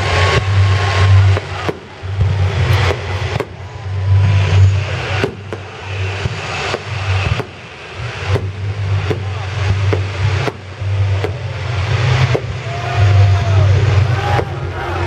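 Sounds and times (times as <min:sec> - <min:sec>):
firework shells bursting: 0:00.0 - 0:14.8
low rumble: 0:00.0 - 0:15.0.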